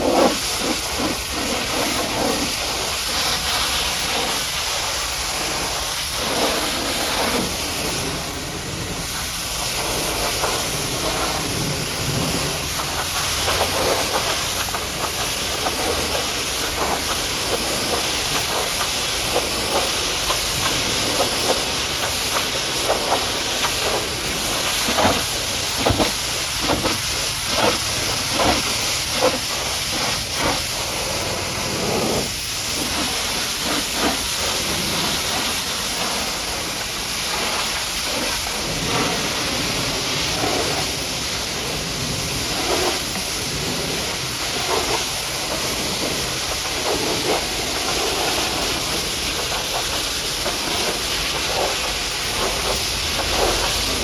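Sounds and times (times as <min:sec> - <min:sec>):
pressure washer jet hissing: 0:00.0 - 0:54.0
water splattering: 0:09.0 - 0:54.0.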